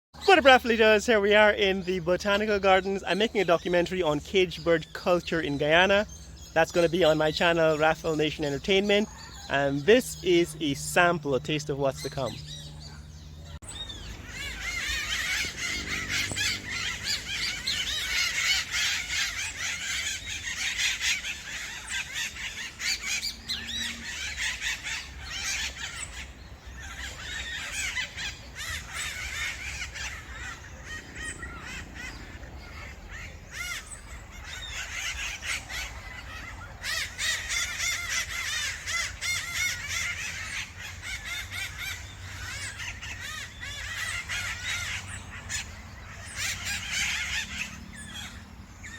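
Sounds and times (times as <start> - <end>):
flock of birds squawking: 0.2 - 48.9.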